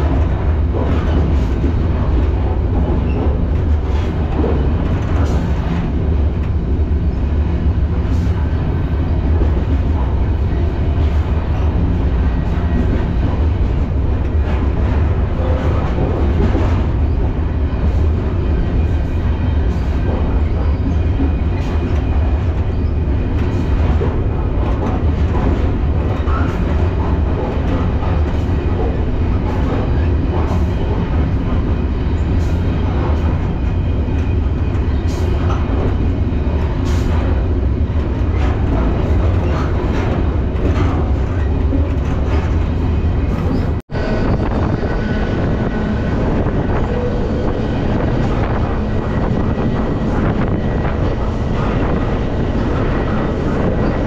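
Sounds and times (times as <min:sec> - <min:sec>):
train clanks and knocks: 0:00.0 - 0:54.0
train wheels rumbling on rail: 0:00.0 - 0:54.0.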